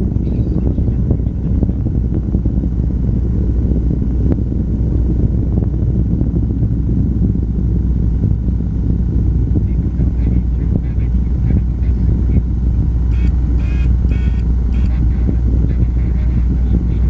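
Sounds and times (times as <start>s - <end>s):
rocket engines rumbling: 0.0s - 17.0s.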